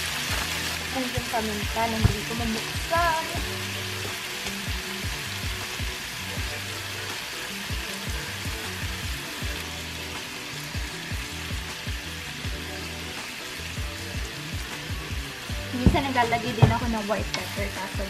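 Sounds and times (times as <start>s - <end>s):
background music with low beat: 0.0s - 18.0s
shrimp sizzling in a pan: 0.0s - 18.0s.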